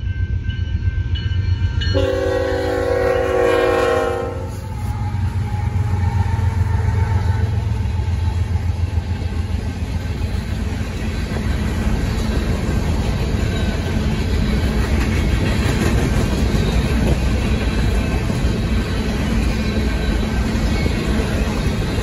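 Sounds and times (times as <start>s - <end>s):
diesel locomotive engine: 0.0s - 22.0s
train wheels rumbling on rail: 0.0s - 22.0s.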